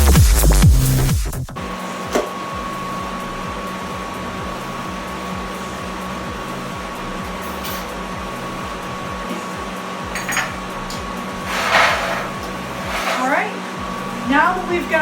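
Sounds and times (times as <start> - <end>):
electric fan hum: 2.7 - 15.0.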